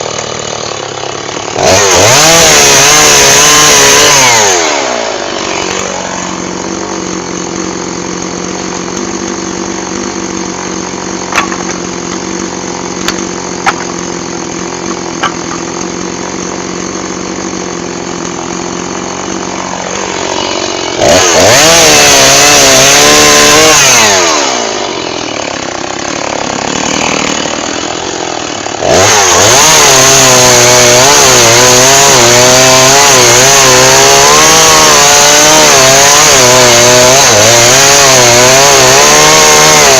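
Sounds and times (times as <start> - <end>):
chainsaw idling and cutting wood: 0.0 - 39.9.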